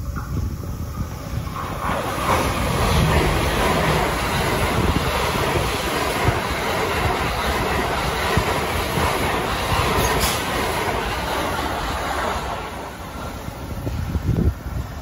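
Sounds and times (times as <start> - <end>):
train rushing past: 0.0 - 15.0
wheels clacking over rail joints: 1.5 - 14.0.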